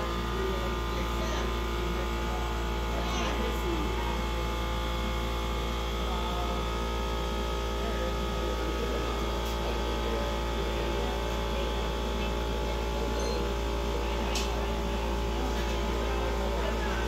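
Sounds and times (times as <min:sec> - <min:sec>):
faint voices chattering: 0:00.0 - 0:17.0
furnace and blower hum: 0:00.0 - 0:17.0.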